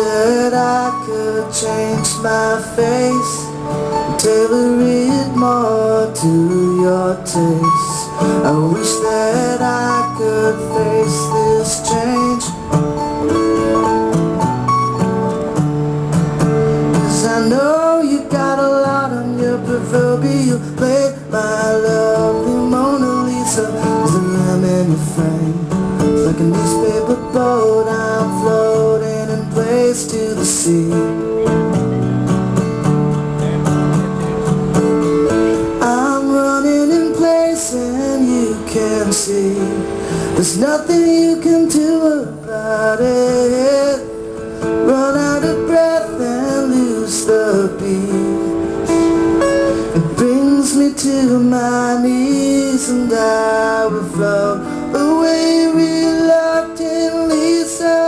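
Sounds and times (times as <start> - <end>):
man singing: 0.0 - 12.8, 17.0 - 31.5, 35.5 - 58.0
layered acoustic guitar: 0.0 - 58.0.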